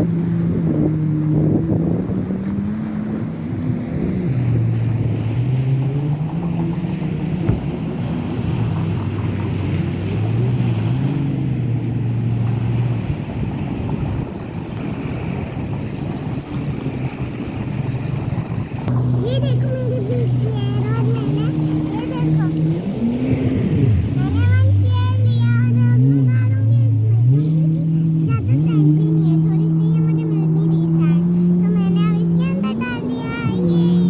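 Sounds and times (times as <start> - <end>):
wind noise on microphone: 0.0 - 31.6
jet ski engine revving: 0.0 - 34.0.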